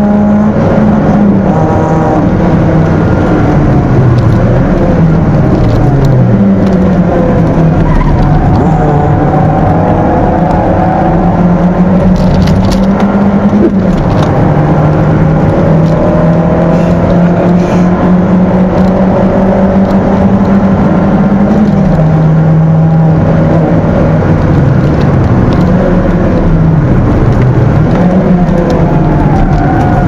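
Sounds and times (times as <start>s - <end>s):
car engine running under load: 0.0s - 30.0s.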